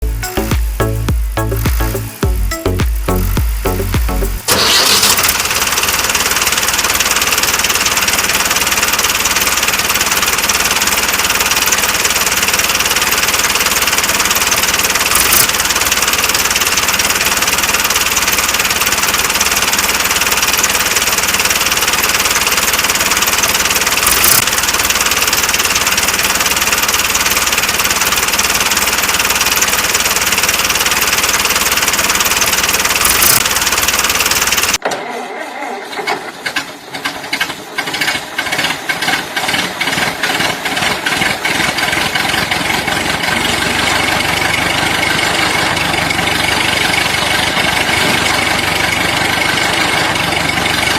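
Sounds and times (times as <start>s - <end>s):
small tractor engine running: 0.0s - 50.9s.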